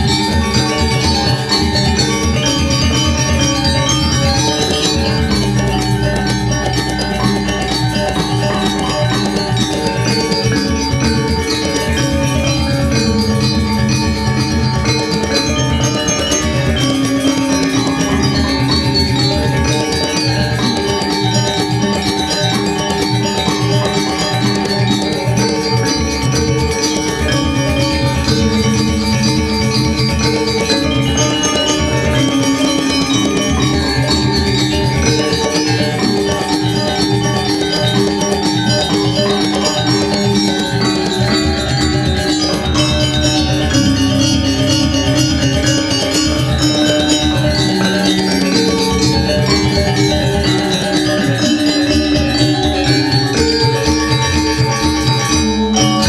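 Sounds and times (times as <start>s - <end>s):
gamelan ensemble playing: 0.0s - 56.0s.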